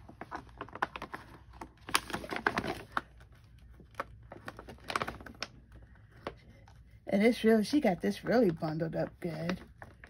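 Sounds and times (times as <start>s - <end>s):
plastic envelope crinkling: 0.0s - 6.8s, 7.4s - 10.0s.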